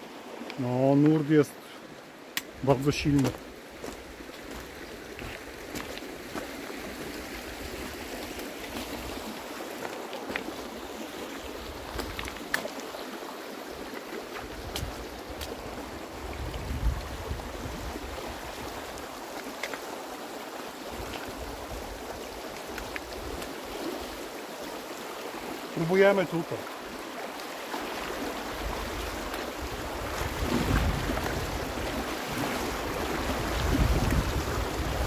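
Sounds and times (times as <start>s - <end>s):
river rushing over stones: 0.0s - 35.0s.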